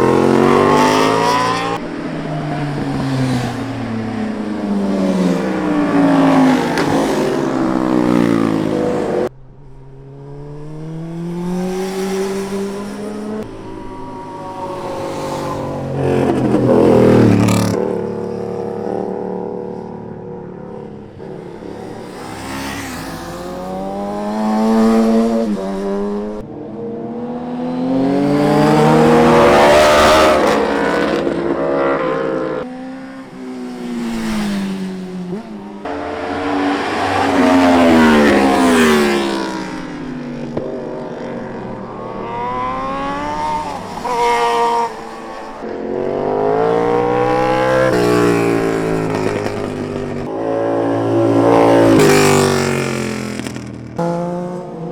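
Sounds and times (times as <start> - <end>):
motorbike engine accelerating: 0.0 - 54.9.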